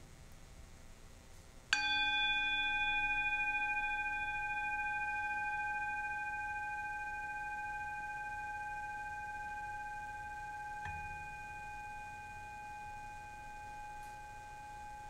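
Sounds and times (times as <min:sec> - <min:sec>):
singing bowl ringing: 0:01.8 - 0:15.0.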